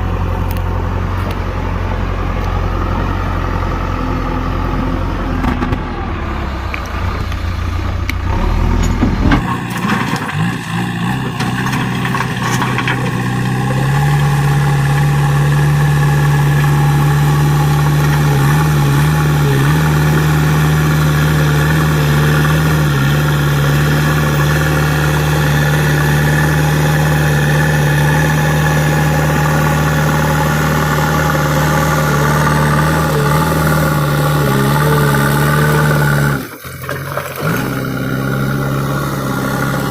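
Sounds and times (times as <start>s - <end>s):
diesel engine droning: 0.0s - 39.9s
engine knocks: 5.3s - 39.9s.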